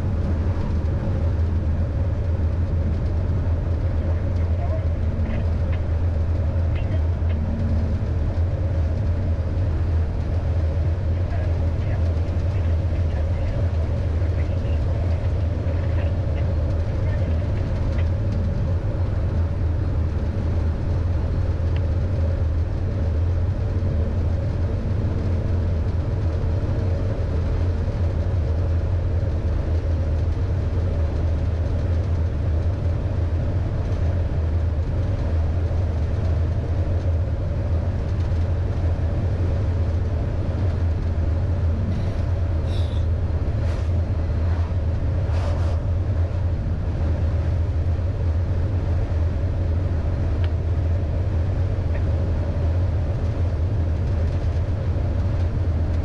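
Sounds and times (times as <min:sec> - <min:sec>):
truck diesel engine drone: 0:00.0 - 0:56.0
tyres on a wet road: 0:00.0 - 0:56.0.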